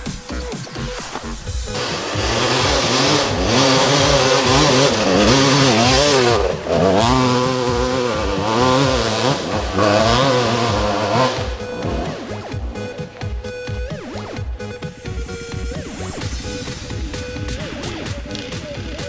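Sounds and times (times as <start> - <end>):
dirt bike engine revving: 1.5 - 19.0.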